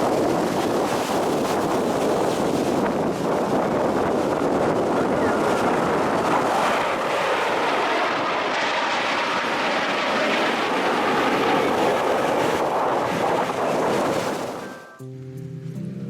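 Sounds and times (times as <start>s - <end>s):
jet aircraft flying overhead: 0.0s - 14.9s.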